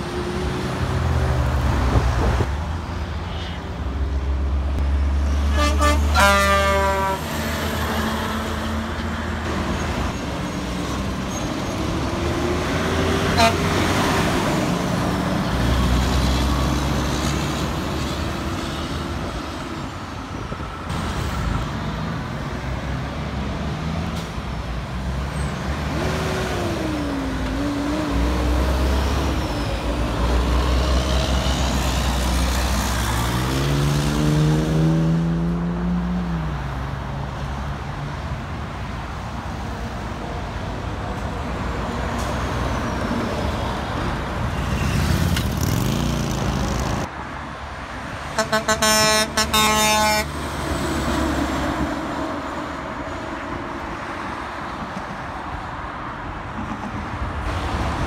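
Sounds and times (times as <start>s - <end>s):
heavy trucks passing: 0.0s - 58.0s.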